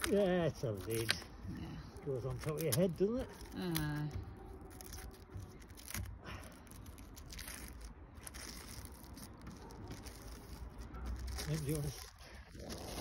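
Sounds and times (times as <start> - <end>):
plastic film crinkling and peeling: 0.0 - 13.0.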